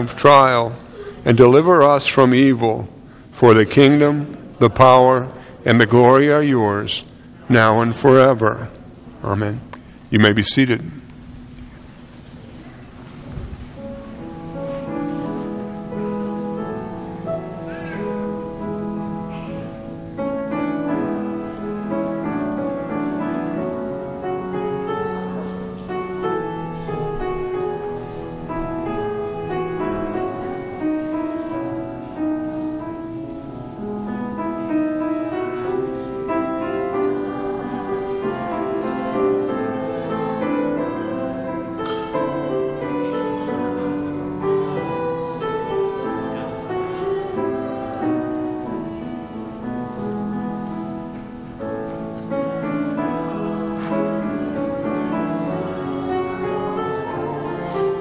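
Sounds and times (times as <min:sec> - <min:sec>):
slow keyboard chords: 0:10.8 - 0:58.0.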